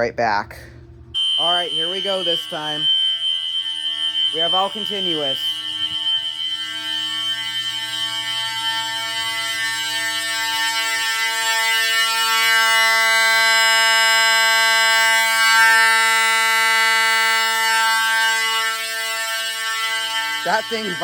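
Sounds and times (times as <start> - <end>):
fire alarm horns blaring: 1.1 - 21.0.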